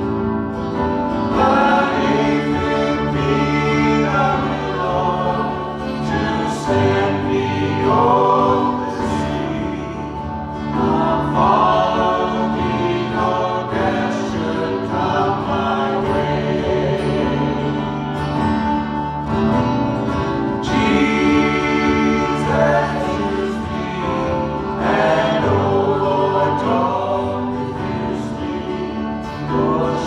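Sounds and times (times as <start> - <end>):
choir-like singing: 0.0 - 19.3, 20.2 - 30.0
acoustic guitar: 0.0 - 30.0
sustained accompaniment: 0.0 - 30.0.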